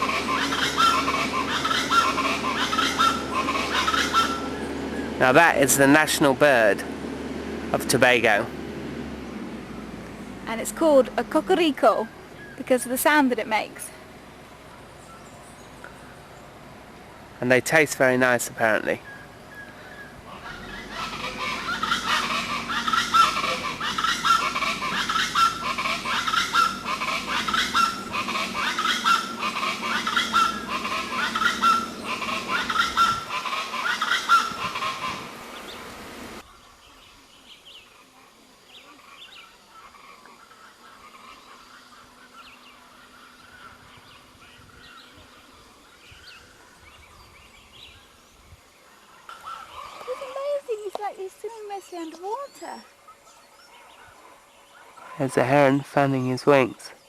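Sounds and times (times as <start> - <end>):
chachalacas calling loudly: 0.0 - 57.0.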